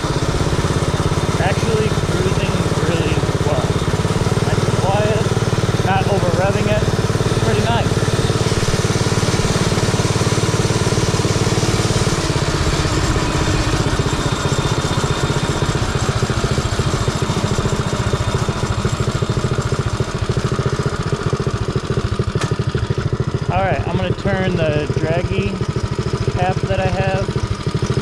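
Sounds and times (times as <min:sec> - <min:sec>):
small engine running steadily: 0:00.0 - 0:28.0.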